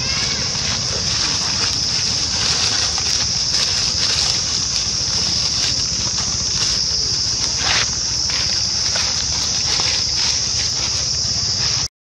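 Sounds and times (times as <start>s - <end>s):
high-pitched hiss: 0.0s - 11.9s
low rumble: 0.0s - 11.9s
rustling of dry leaves: 0.0s - 11.9s.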